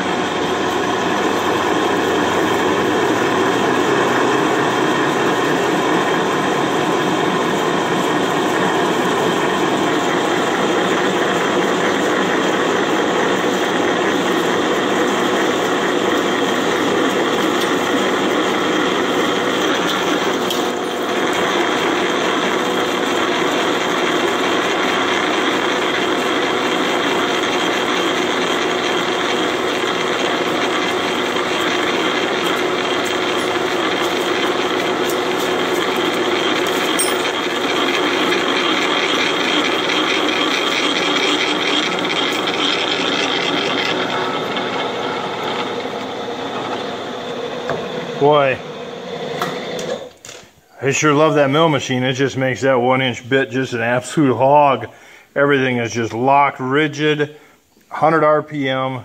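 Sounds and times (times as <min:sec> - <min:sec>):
milling machine drilling steel: 0:00.0 - 0:50.0.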